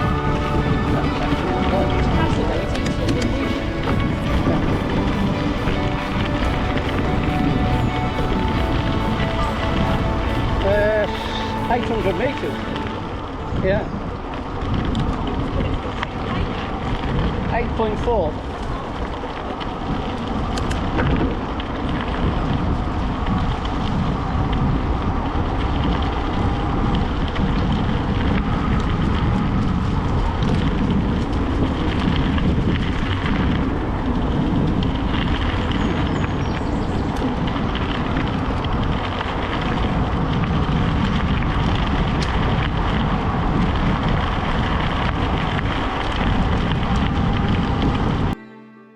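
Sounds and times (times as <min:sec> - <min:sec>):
bicycle tyres rumbling: 0:00.0 - 0:48.4
wind rushing over microphone: 0:00.0 - 0:48.4.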